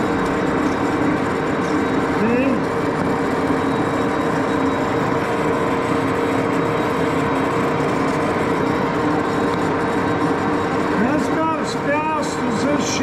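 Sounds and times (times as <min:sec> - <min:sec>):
lathe hum and gear whine: 0:00.0 - 0:13.0.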